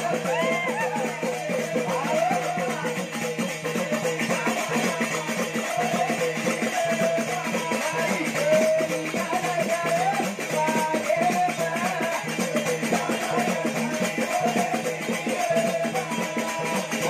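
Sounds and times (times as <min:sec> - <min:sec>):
drum and shaker rhythm: 0:00.0 - 0:17.0.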